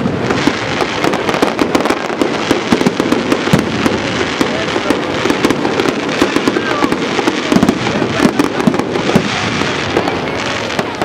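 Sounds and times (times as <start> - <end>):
firework shells bursting: 0.0 - 11.0
fireworks crackling and popping: 0.0 - 11.0.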